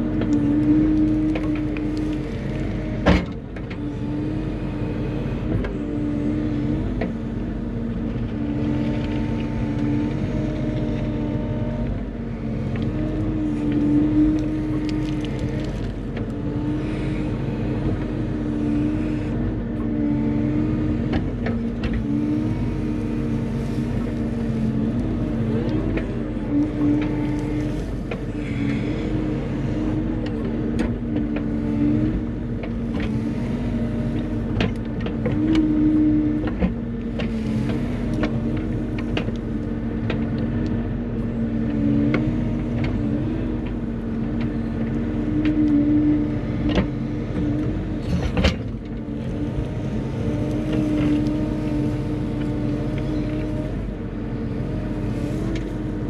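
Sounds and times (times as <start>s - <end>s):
excavator diesel engine under load: 0.0s - 56.0s.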